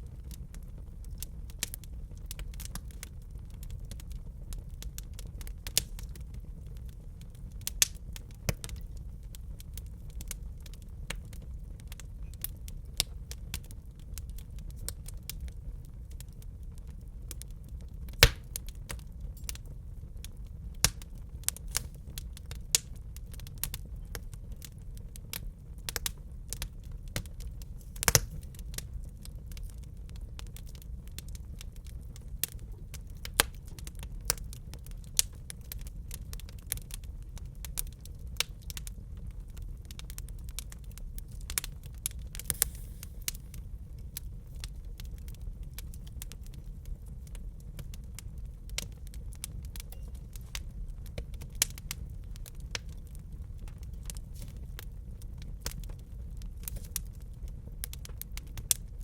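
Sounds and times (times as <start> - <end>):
fire low rumble: 0.0 - 59.0
wood fire crackling and popping: 0.0 - 59.0.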